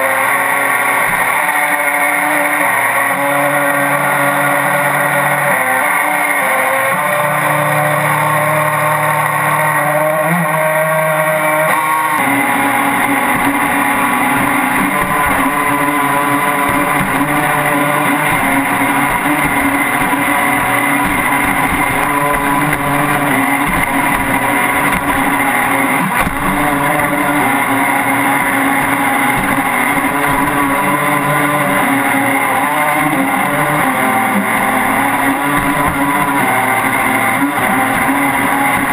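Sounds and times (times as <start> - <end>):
model boat motor running: 0.0 - 38.9
water noise: 1.1 - 38.9.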